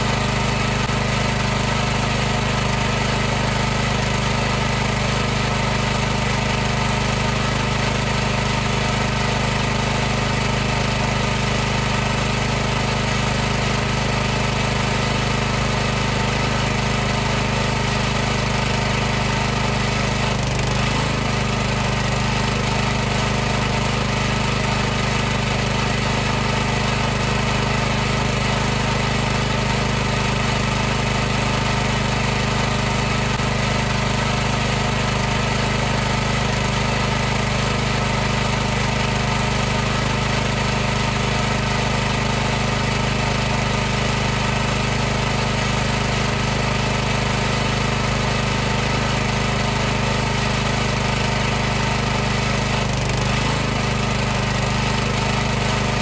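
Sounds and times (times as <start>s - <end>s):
pressure washer running: 0.0s - 56.0s.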